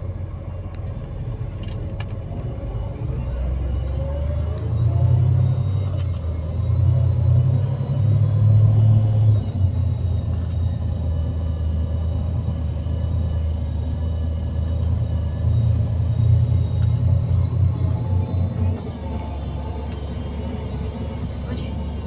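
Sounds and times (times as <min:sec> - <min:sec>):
low rumble of engine and road: 0:00.0 - 0:22.0.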